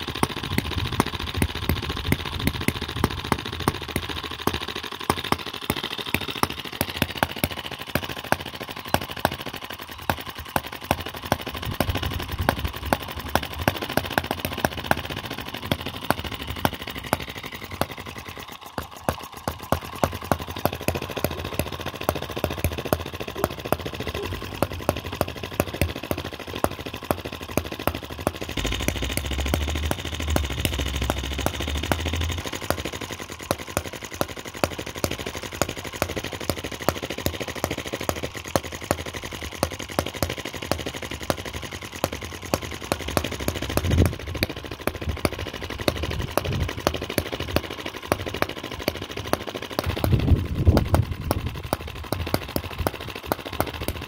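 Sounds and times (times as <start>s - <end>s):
model gas engine popping: 0.0s - 54.0s.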